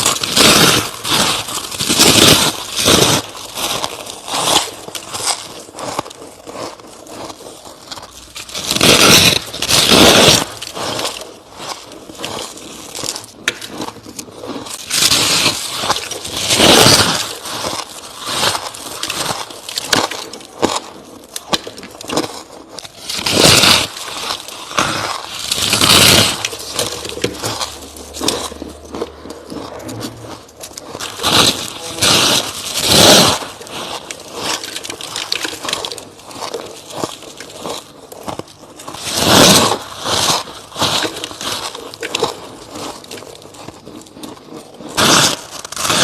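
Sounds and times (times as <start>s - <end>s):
crunching ice: 0.0s - 46.0s.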